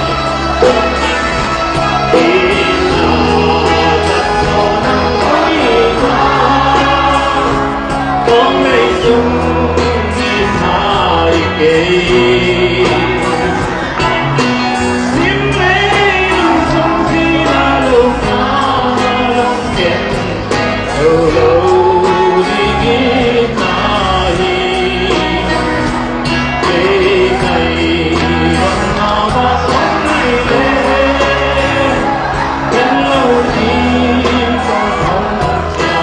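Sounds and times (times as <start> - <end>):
man singing: 0.0 - 36.0
rock band playing: 0.0 - 36.0.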